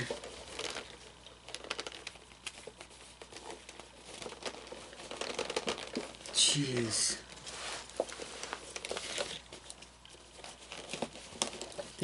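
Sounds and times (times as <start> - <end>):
fabric rustling and crinkling: 0.0 - 12.0.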